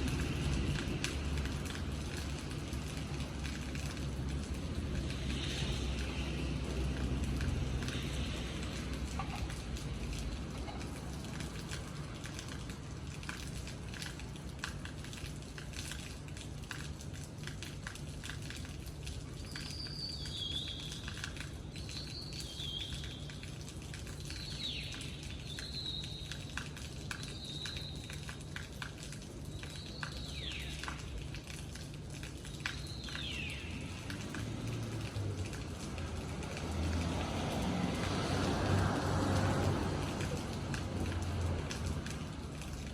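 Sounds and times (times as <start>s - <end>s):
rain pattering and dripping: 0.0s - 42.9s.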